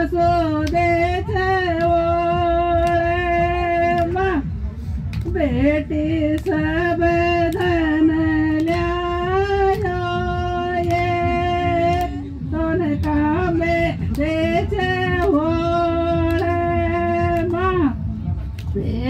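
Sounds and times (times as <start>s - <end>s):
woman singing into microphone: 0.0s - 4.6s, 5.2s - 18.0s, 18.7s - 19.0s.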